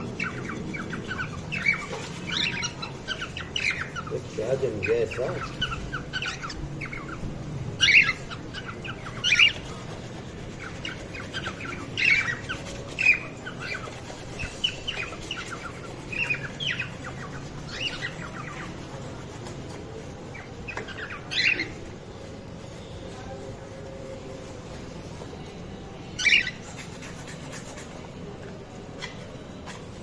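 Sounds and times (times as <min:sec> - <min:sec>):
cockatiels chirping and squawking: 0:00.0 - 0:23.4, 0:26.1 - 0:30.0.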